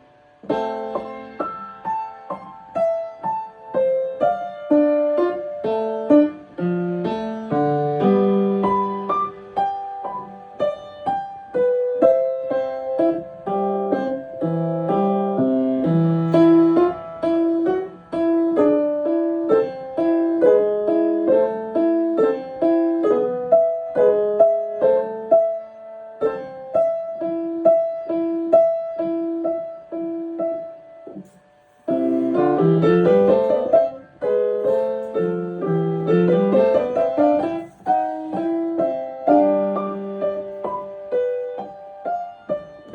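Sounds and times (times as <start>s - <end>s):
solo piano playing: 0.0s - 42.9s.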